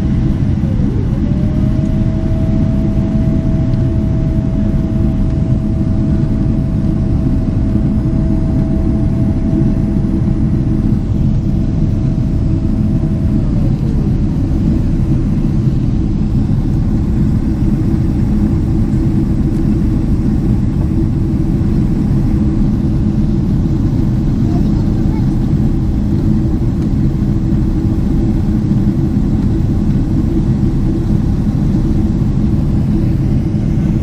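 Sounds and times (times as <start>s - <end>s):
jet engine and airflow noise: 0.0s - 34.0s.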